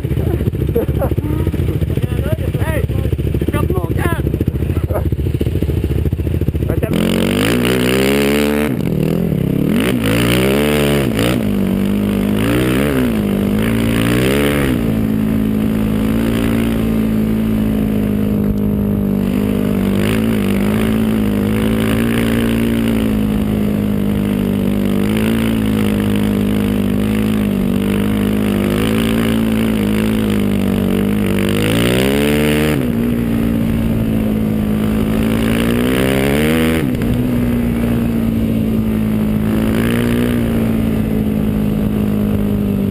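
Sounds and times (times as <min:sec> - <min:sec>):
quad engine revving: 0:00.0 - 0:42.9.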